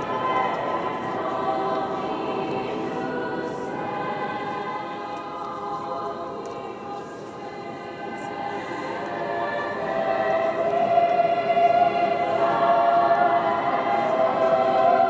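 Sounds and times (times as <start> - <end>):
girls' choir singing: 0.0 - 15.0.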